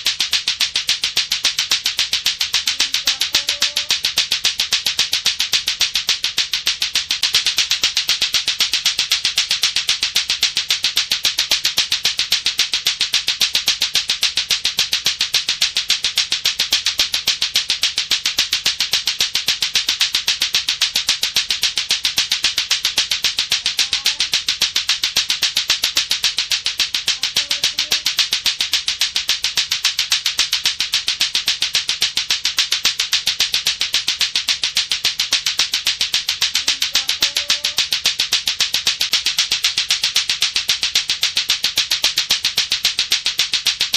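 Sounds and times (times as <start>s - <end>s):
clacker balls clacking: 0.0s - 43.9s.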